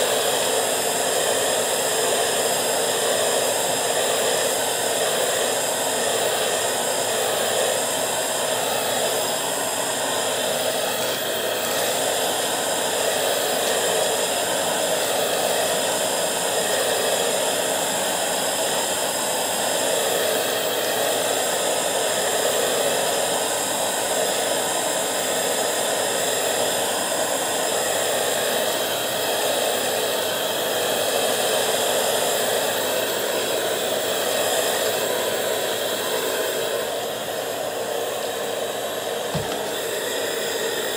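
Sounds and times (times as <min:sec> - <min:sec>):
vacuum cleaner running on rug: 0:00.0 - 0:40.9.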